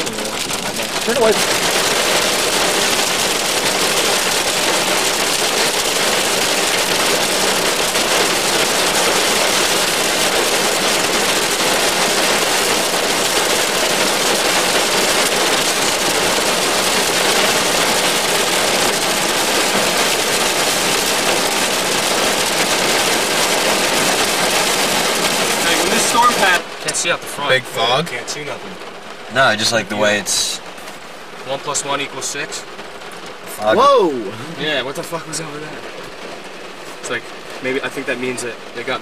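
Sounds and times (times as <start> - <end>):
hail drumming on car roof: 0.0 - 39.0.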